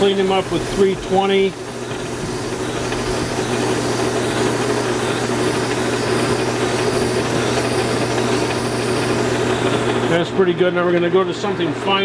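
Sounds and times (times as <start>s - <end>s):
abrasive paper rubbing hiss: 0.0s - 9.7s
lathe motor hum: 0.0s - 11.8s.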